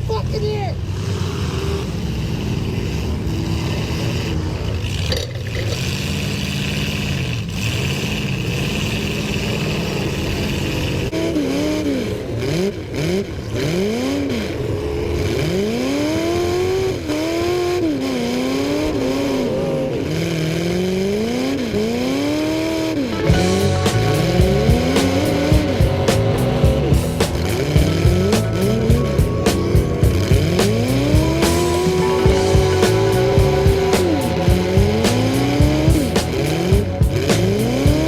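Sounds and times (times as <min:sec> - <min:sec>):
engines revving: 0:00.0 - 0:38.0
engine drone: 0:00.8 - 0:38.0.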